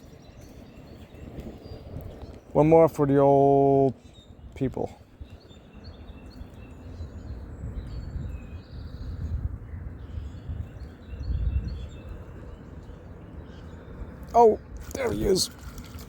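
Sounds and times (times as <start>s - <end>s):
small birds chirping: 0.0s - 16.0s
wind rumbling on microphone: 0.0s - 16.0s.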